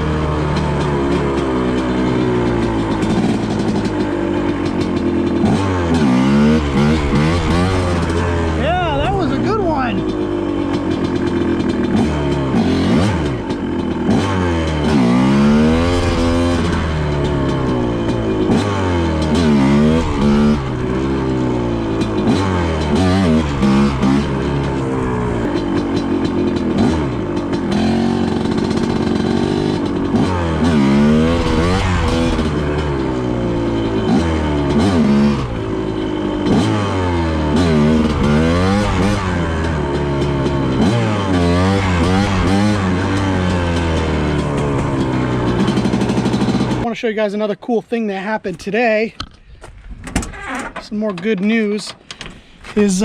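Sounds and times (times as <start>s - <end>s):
dirt bike engine revving: 0.0s - 48.4s, 52.4s - 53.0s.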